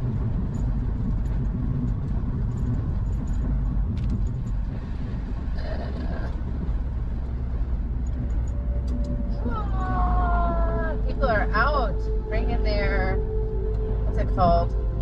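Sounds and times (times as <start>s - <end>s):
engine and road noise rumble: 0.0s - 15.0s.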